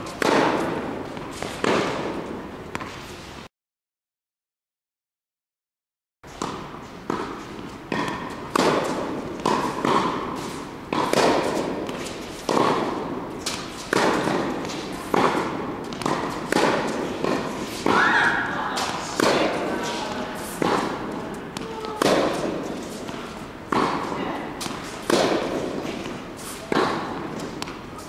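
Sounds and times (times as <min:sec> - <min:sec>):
tennis ball bouncing on hard court: 0:00.0 - 0:03.0, 0:06.3 - 0:28.0
tennis ball struck by rackets: 0:00.1 - 0:03.0, 0:06.3 - 0:27.8.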